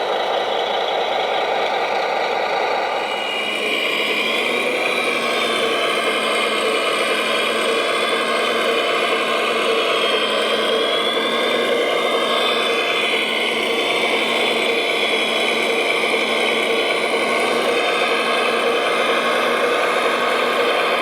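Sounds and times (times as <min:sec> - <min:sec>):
high motor whine: 0:00.0 - 0:21.0
electric motors whirring: 0:02.6 - 0:21.0.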